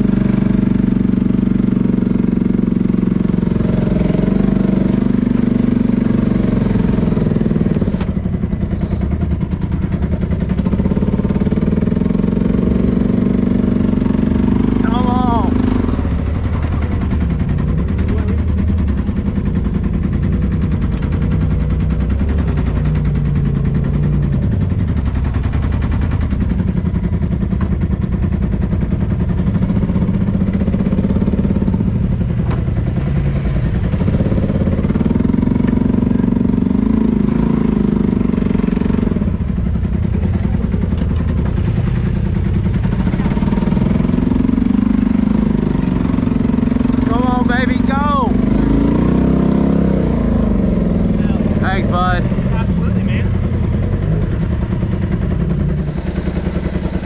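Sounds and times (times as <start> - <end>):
utility vehicle engine running: 0.0 - 57.0.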